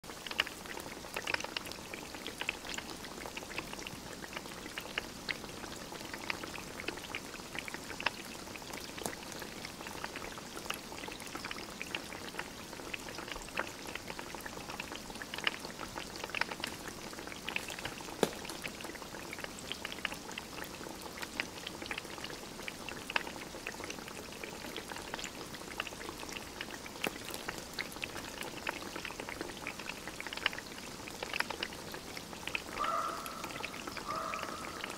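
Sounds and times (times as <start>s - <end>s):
food simmering in a pot: 0.0s - 34.9s
wood fire crackling and popping: 0.1s - 5.4s, 6.1s - 32.8s.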